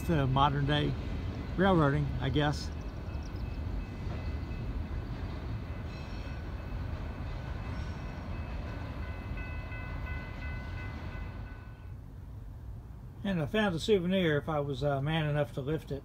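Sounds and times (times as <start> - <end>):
distant freight train rumbling: 0.0 - 16.0.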